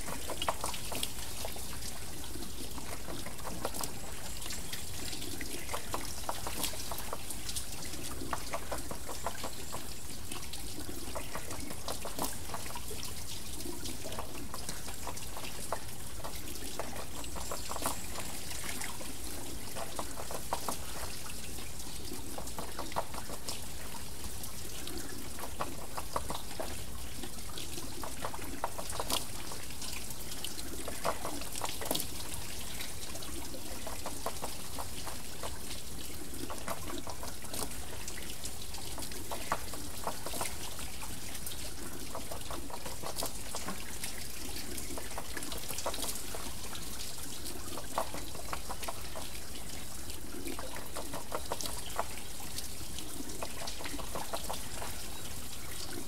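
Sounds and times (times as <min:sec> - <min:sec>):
water pouring off water wheel: 0:00.0 - 0:56.0
water splashing: 0:00.0 - 0:56.0.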